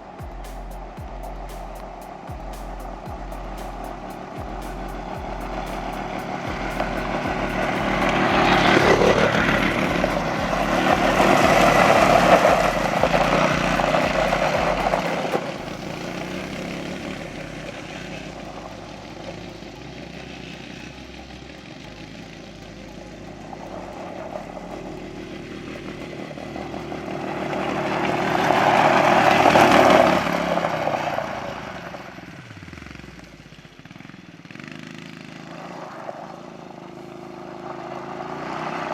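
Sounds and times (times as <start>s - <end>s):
small atv engines revving high: 0.0s - 38.9s.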